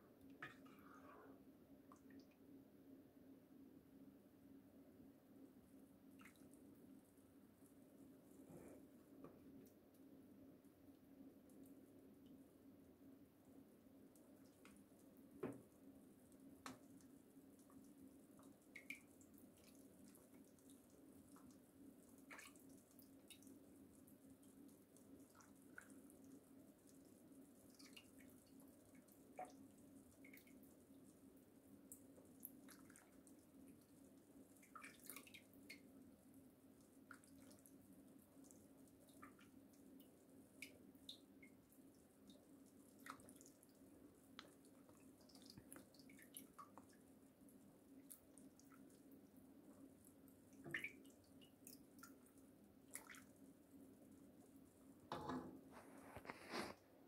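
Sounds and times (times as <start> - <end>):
faint steady hum: 0.0 - 57.0
small ticks and drip-like pops: 1.8 - 2.4, 6.1 - 8.4, 9.2 - 55.1.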